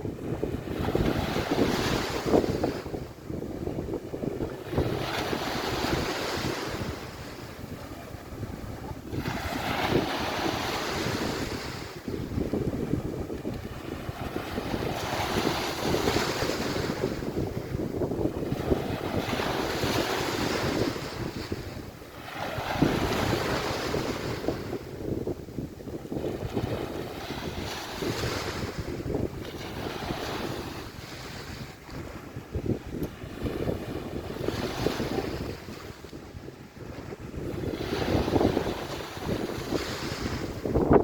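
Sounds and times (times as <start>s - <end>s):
sea waves washing onto beach: 0.0s - 41.0s
wind rumbling on microphone: 0.0s - 41.0s.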